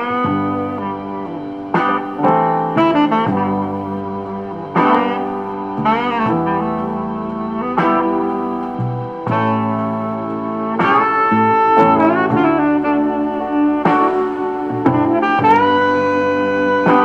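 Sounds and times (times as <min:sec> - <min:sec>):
jazz music with saxophone lead: 0:00.0 - 0:17.0.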